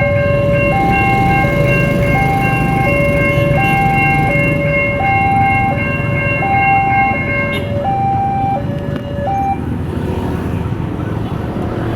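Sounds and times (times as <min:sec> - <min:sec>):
two-tone level crossing siren: 0:00.0 - 0:09.7
high-pitched crossing siren: 0:00.0 - 0:09.8
road traffic noise: 0:00.0 - 0:11.9.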